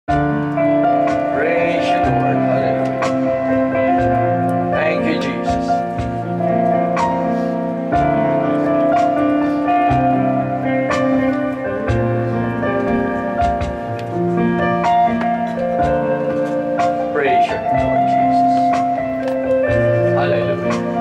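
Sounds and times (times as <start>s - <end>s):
keyboard playing slow chords: 0.1s - 21.0s.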